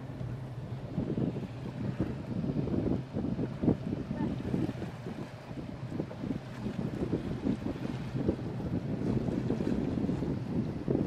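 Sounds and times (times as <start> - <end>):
motorboat rumble: 0.0 - 11.0
wind buffeting microphone: 0.0 - 11.0.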